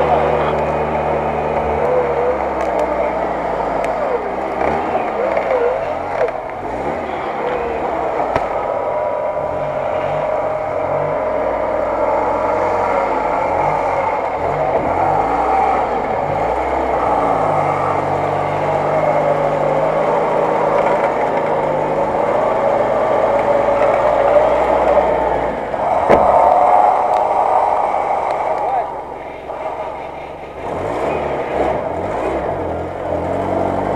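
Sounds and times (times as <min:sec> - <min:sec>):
wavering whine: 0:00.0 - 0:31.9
off-road vehicle engine revving: 0:00.0 - 0:33.9.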